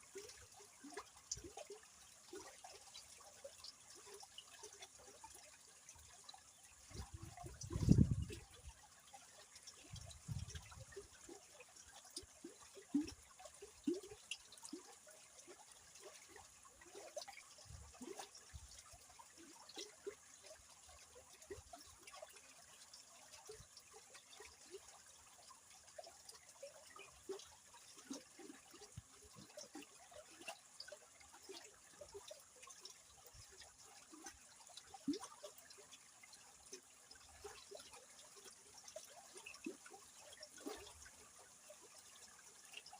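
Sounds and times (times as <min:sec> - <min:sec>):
river water gurgling and splashing: 0:00.0 - 0:42.9.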